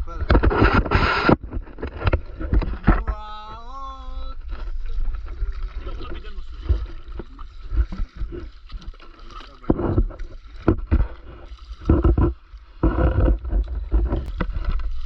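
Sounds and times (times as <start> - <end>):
paddles splashing in water: 0.4 - 15.0.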